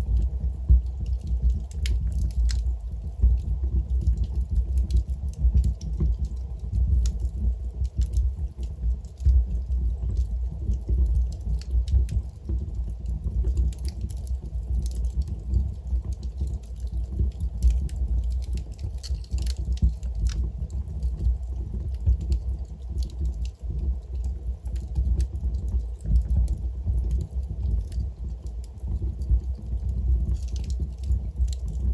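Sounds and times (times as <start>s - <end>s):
low rumble of flames: 0.0s - 31.9s
wood crackling and popping: 0.0s - 31.9s.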